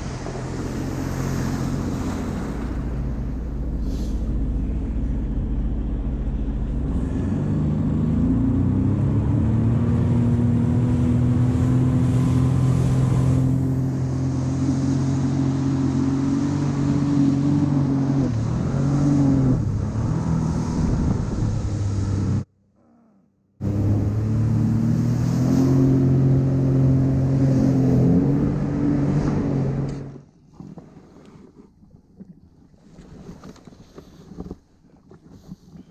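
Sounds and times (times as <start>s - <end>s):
jet ski engine revving: 0.0s - 22.5s, 23.6s - 30.2s.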